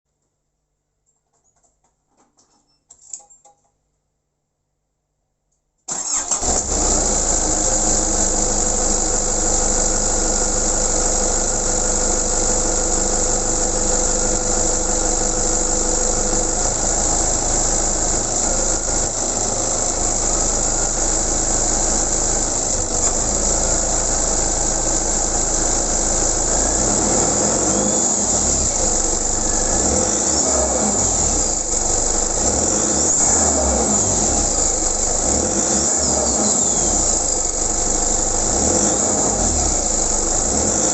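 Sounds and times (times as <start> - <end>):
diesel engine revving: 5.9 - 40.9.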